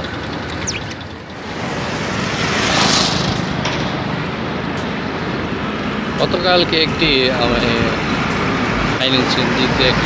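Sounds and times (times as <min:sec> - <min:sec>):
low traffic rumble: 0:00.0 - 0:10.0
vehicle passing by: 0:00.6 - 0:10.0.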